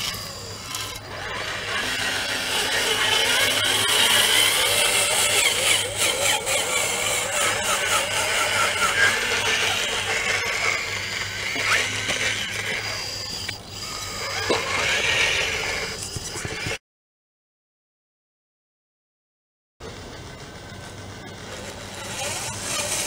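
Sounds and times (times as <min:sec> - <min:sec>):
small electric motors whining: 0:00.0 - 0:16.8, 0:19.8 - 0:23.0.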